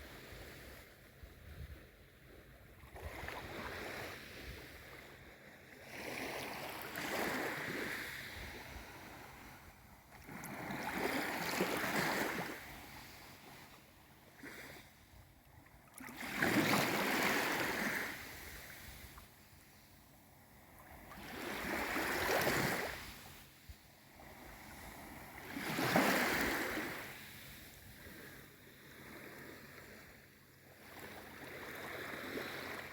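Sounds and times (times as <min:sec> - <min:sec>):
gentle sea waves washing: 0:00.0 - 0:15.1, 0:15.8 - 0:32.9.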